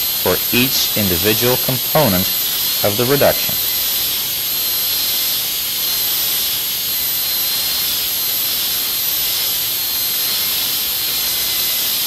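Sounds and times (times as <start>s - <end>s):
dental drill hiss and whine: 0.0s - 12.0s.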